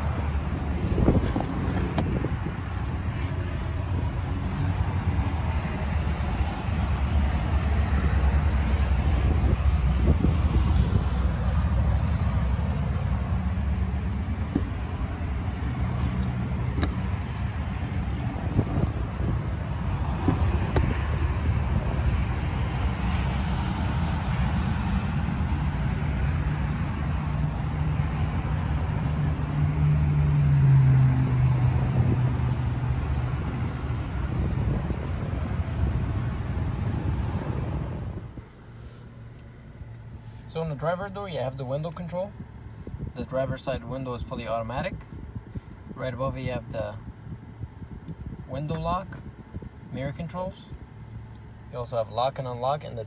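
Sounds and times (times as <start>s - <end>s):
vehicle engine idling: 0.0s - 53.0s.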